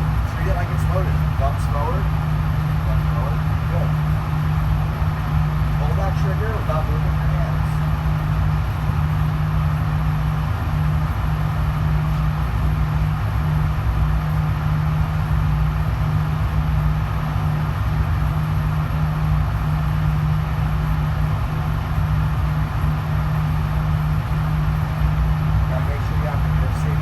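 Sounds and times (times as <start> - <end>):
low mechanical drone: 0.0 - 27.0.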